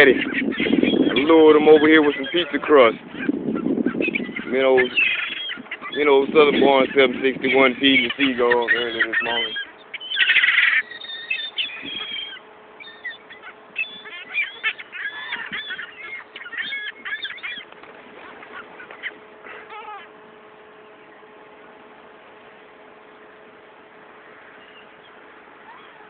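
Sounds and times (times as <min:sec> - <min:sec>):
faint steady hum: 0:00.0 - 0:26.0
seagulls calling and squawking: 0:00.0 - 0:26.0.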